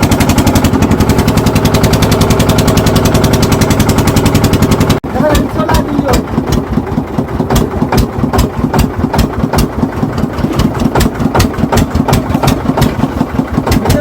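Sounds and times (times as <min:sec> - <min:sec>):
boat engine running: 0:00.0 - 0:14.0
sharp rhythmic knocks: 0:01.7 - 0:14.0.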